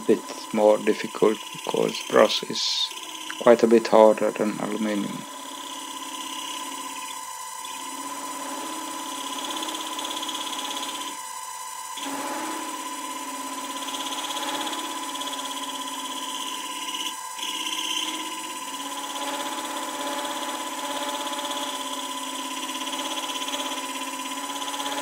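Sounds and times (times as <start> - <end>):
cutter tool cutting brass: 0.0 - 11.2, 12.0 - 25.0
lathe drive whining: 0.0 - 25.0.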